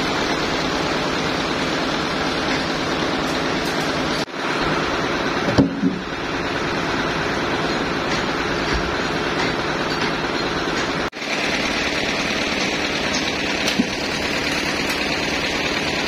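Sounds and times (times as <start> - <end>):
sawmill machinery humming: 0.0 - 16.0.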